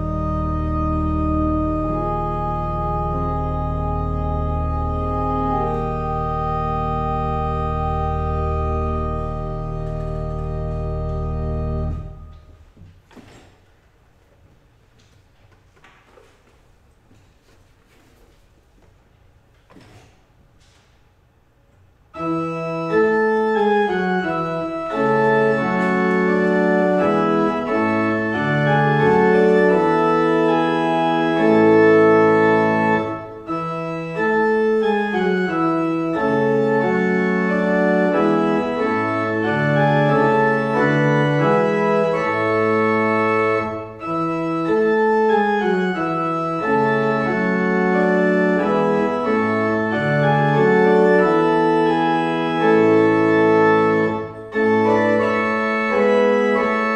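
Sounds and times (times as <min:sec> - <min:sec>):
church organ playing chords: 0:00.0 - 0:12.8, 0:22.1 - 0:56.9.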